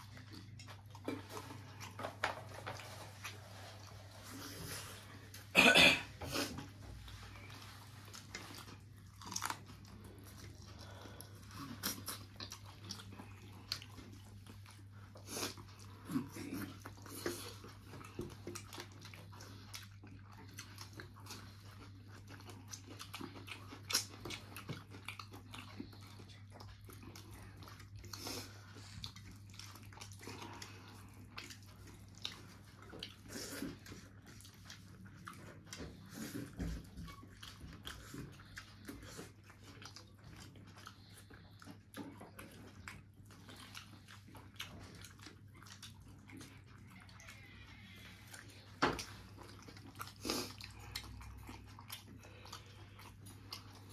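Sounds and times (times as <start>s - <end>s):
people chewing food: 0.0s - 53.9s.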